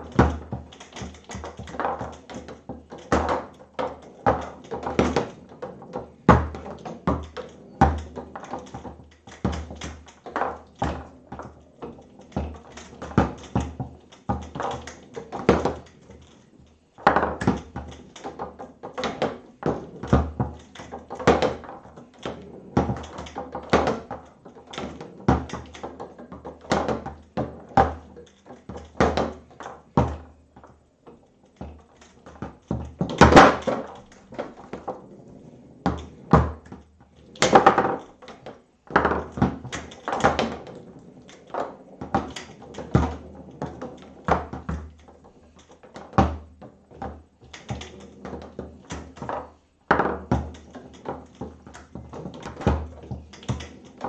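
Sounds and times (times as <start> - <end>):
foosball clacks: 0.0 - 54.0.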